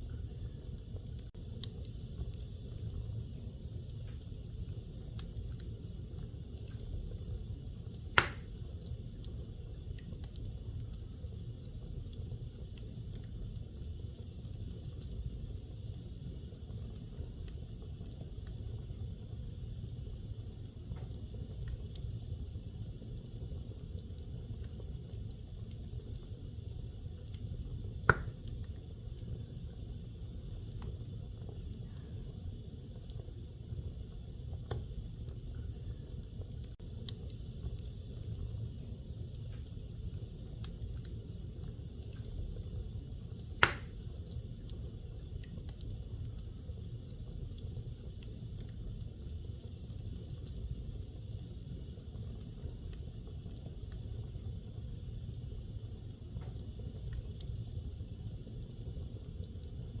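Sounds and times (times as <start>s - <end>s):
fire rumbling and crackling: 0.0s - 60.0s
sharp pops from fire: 1.0s - 18.9s, 19.6s - 33.3s, 34.1s - 35.7s, 36.4s - 60.0s.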